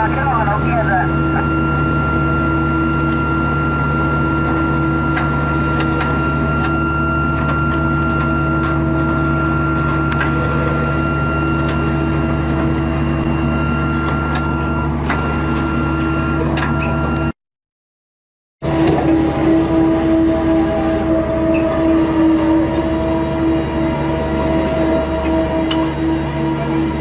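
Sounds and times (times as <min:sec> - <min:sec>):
ship engine drone: 0:00.0 - 0:17.3, 0:18.6 - 0:27.0
machinery high whine: 0:00.0 - 0:17.4, 0:18.6 - 0:27.0.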